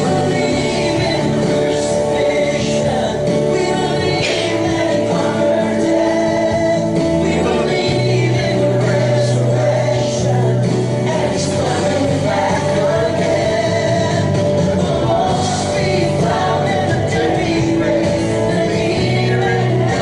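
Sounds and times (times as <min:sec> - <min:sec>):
band playing worship song: 0:00.0 - 0:20.0
voices singing: 0:00.0 - 0:20.0.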